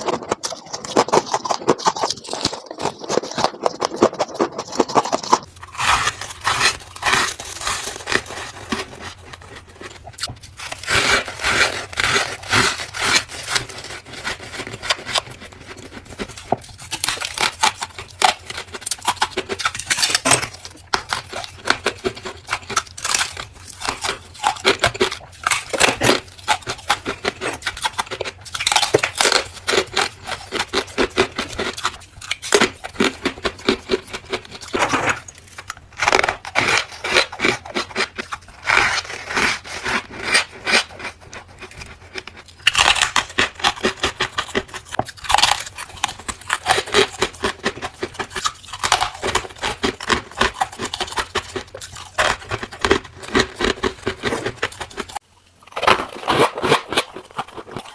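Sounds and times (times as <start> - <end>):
ice being bitten and chewed: 0.0 - 57.9.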